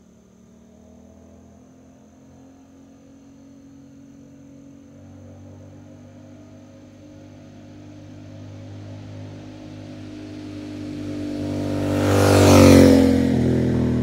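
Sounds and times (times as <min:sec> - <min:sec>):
motorcycle engine approaching: 0:00.0 - 0:14.0.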